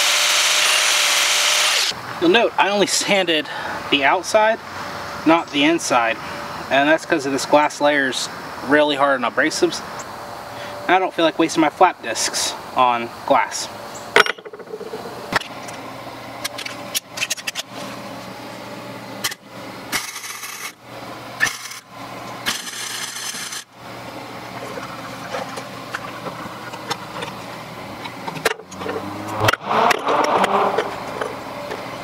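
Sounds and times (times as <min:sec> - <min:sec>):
steady low hum: 0:01.8 - 0:32.0.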